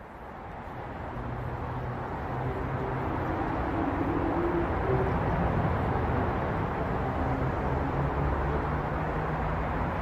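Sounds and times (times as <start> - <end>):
city road traffic: 0.0 - 10.0.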